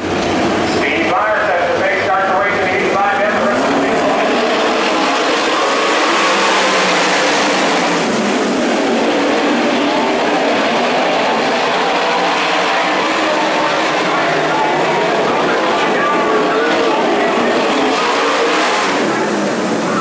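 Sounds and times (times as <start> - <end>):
racing car engines: 0.0 - 20.0.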